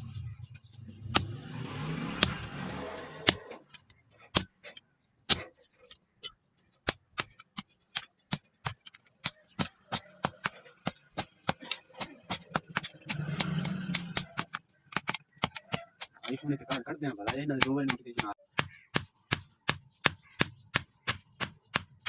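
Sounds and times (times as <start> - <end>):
hammer striking steel: 1.1 - 3.8, 4.4 - 6.0, 6.8 - 22.0.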